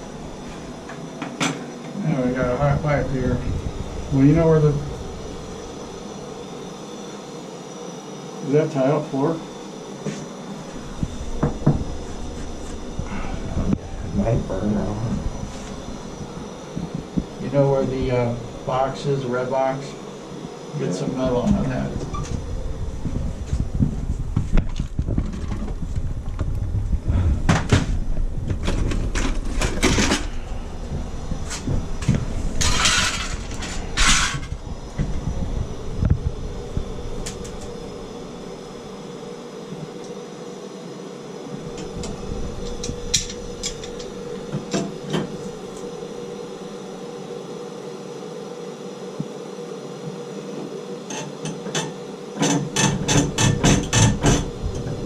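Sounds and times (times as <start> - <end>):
gas torch flame: 0.0 - 40.4, 41.4 - 47.3, 50.4 - 55.0.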